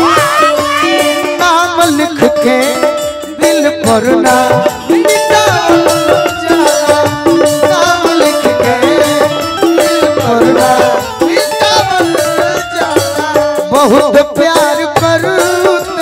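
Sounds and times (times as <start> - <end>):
quick steady percussion beat: 0.0 - 16.0
repeating instrumental melody: 0.0 - 16.0.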